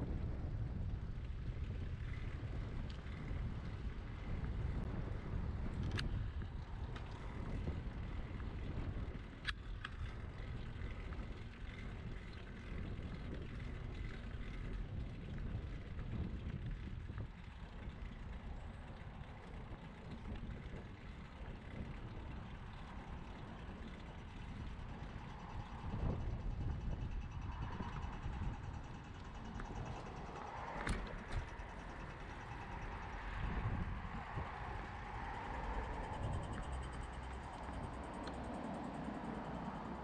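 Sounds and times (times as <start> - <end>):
bicycle tyre noise: 0.0 - 40.0
wind on microphone: 0.0 - 40.0.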